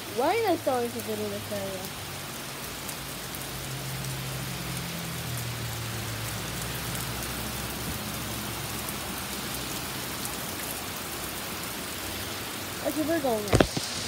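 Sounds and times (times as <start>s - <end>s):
heavy rain on wooden deck: 0.0s - 14.0s.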